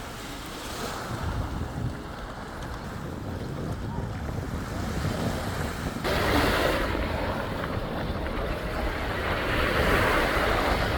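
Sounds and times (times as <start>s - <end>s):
waves washing on shore: 0.0s - 10.9s
wind buffeting microphone: 0.0s - 10.9s.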